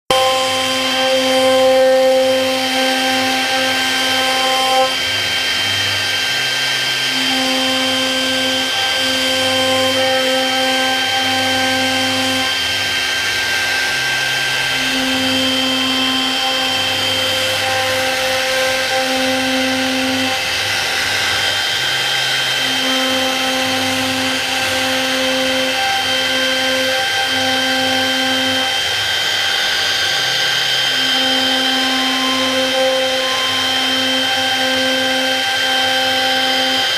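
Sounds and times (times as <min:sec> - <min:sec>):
router spindle whine: 0:00.1 - 0:36.9
shifting motor tones: 0:00.1 - 0:36.9.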